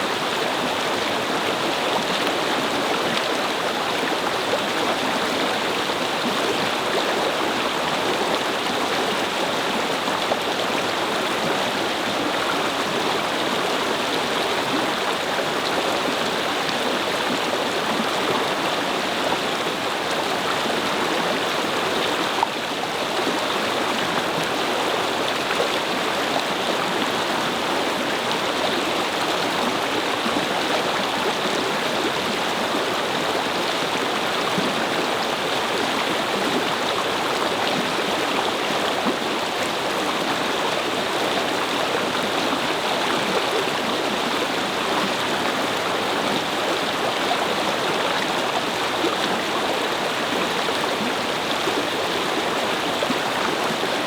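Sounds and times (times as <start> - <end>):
brook water flowing: 0.0 - 54.0.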